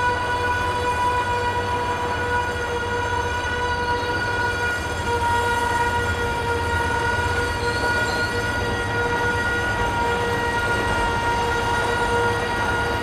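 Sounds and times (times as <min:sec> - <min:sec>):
low train rumble: 0:00.0 - 0:13.0
train wheels squealing: 0:00.0 - 0:13.0.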